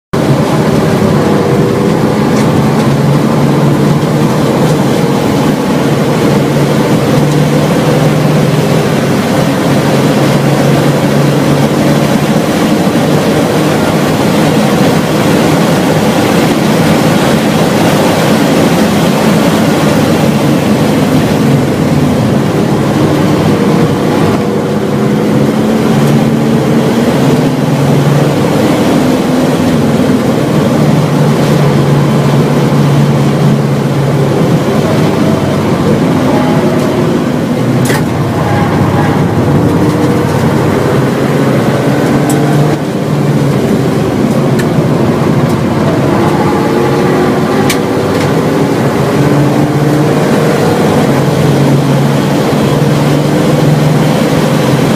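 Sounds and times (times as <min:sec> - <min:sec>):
car engine revving hard: 0:00.2 - 0:54.9.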